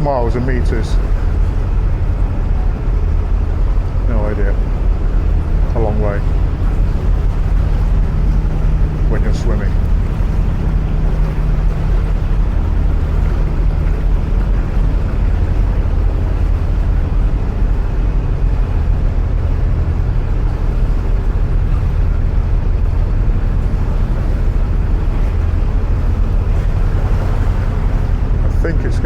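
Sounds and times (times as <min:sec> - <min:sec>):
diesel boat engine droning: 0:00.0 - 0:29.0.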